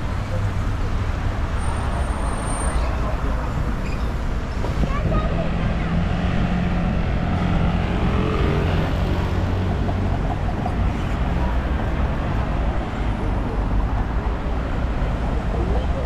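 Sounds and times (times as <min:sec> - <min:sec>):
cars driving through intersection: 0:00.0 - 0:16.0.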